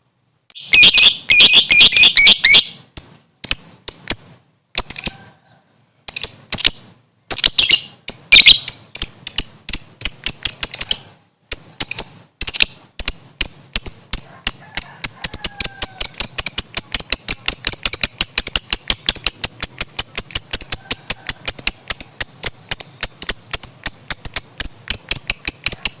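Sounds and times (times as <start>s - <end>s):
lovebird chirping: 0.3s - 26.0s.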